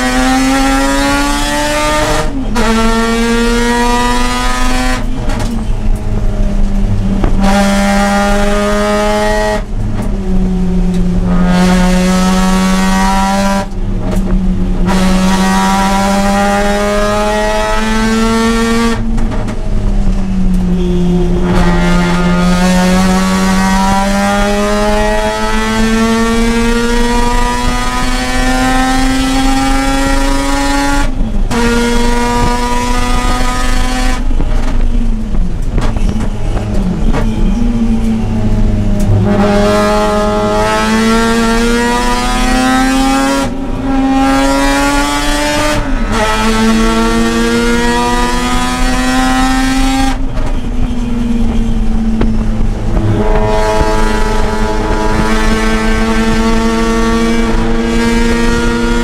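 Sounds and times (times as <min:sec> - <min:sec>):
rotary engine accelerating hard: 0:00.0 - 0:59.0.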